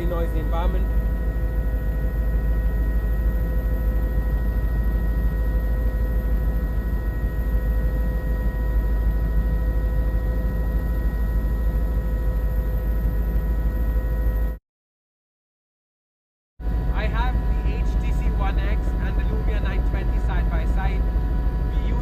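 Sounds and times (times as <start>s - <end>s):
helicopter low drone: 0.0s - 14.6s, 16.6s - 22.0s
high-pitched whine: 0.0s - 14.6s, 16.7s - 22.0s.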